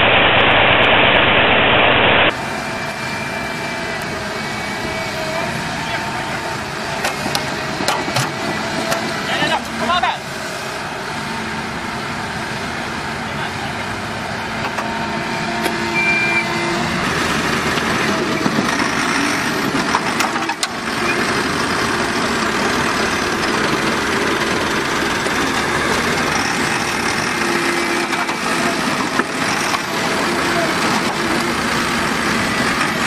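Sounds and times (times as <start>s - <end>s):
diesel engine running: 2.3s - 33.0s.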